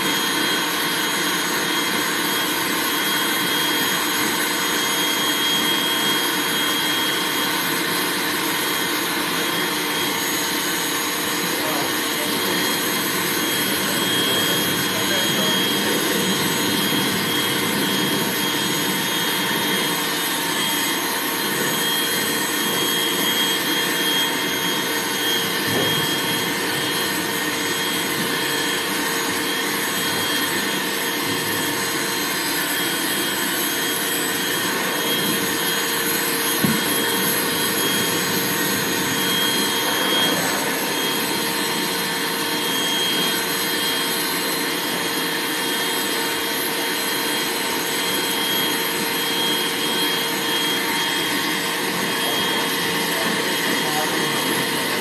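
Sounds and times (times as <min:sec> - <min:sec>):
dryer blowing air with whine: 0:00.0 - 0:55.0.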